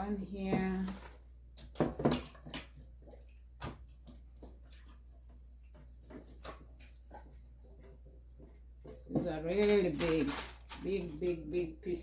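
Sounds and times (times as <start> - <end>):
water drips and wet splashes: 0.4 - 11.0.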